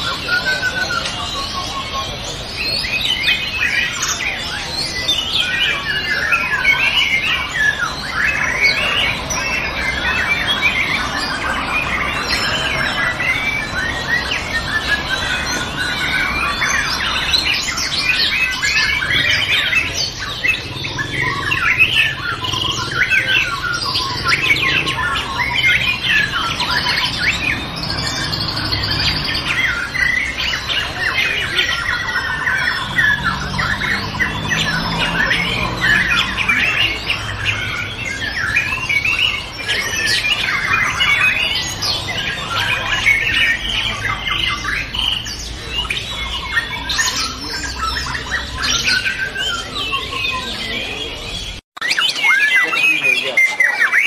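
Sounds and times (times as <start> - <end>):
birds singing whistles and trills: 0.0 - 54.0.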